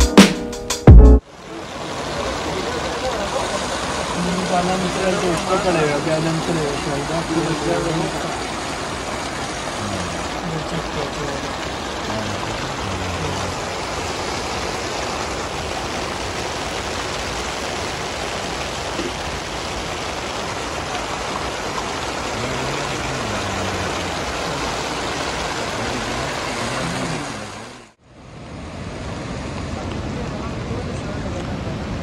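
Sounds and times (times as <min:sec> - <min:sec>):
steady rain falling: 0:01.2 - 0:28.0, 0:28.8 - 0:32.0.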